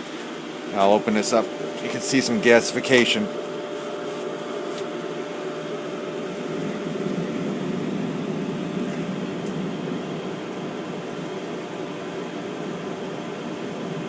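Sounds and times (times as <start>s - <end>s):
boiler humming and rumbling: 0.0s - 14.0s.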